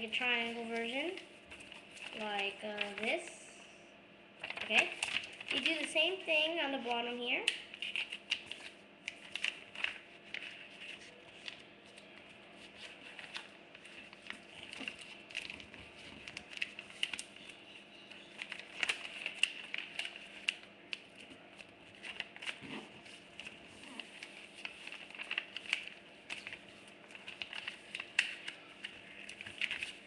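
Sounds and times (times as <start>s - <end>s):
paper crinkling and rustling: 0.1s - 3.3s, 4.4s - 30.0s.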